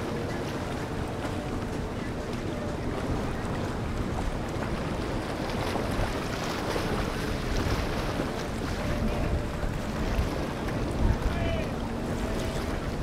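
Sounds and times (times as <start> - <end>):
boat motor: 0.0 - 13.0
water wash: 0.0 - 13.0
wind buffeting microphone: 0.0 - 13.0.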